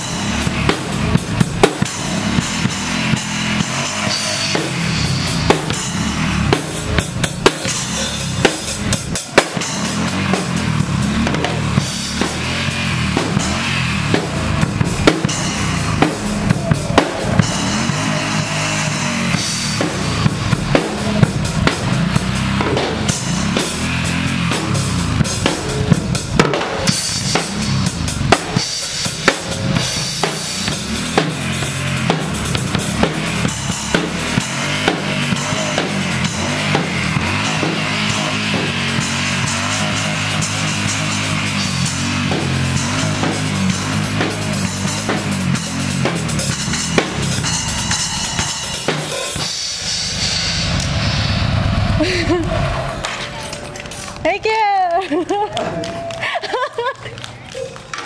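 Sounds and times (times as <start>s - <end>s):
drum kit playing a beat: 0.0s - 58.0s.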